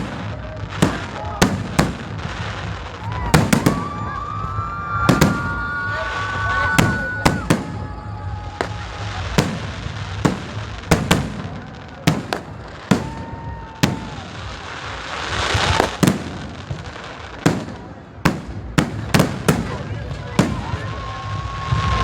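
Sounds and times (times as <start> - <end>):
firework whistling: 0.0 - 17.8, 18.8 - 22.0
firework hiss: 0.0 - 22.0
fireworks bangs: 0.0 - 22.0.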